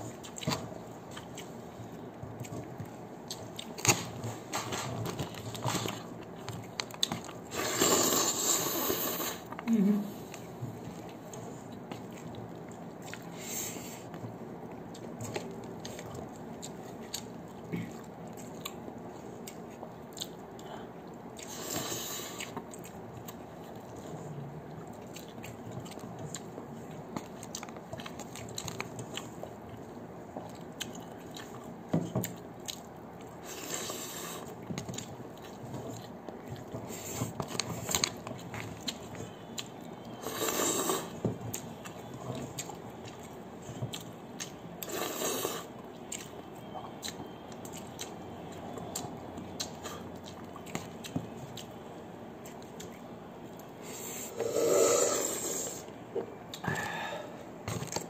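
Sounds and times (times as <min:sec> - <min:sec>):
man chewing noodles: 0:00.0 - 0:58.0.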